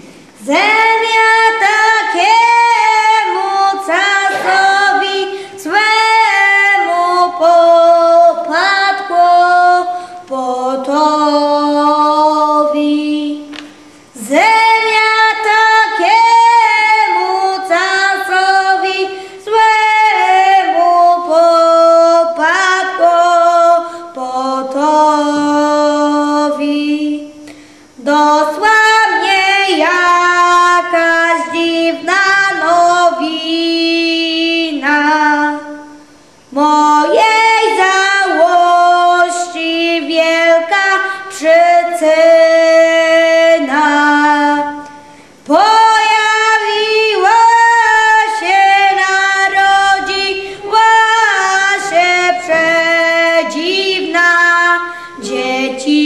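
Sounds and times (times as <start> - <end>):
group singing unaccompanied: 0.4 - 13.5, 14.2 - 27.2, 28.0 - 35.9, 36.6 - 44.9, 45.5 - 56.0.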